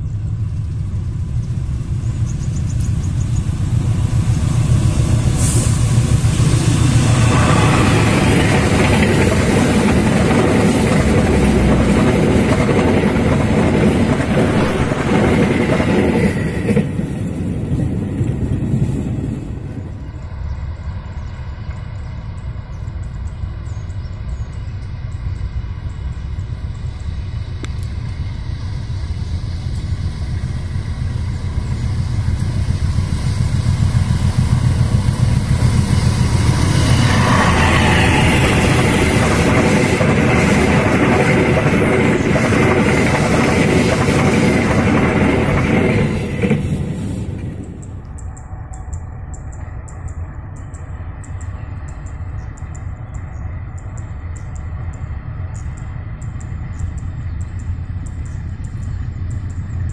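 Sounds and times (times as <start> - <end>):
diesel locomotive approaching: 0.0 - 59.9
train wheel and rail noise: 0.0 - 59.9.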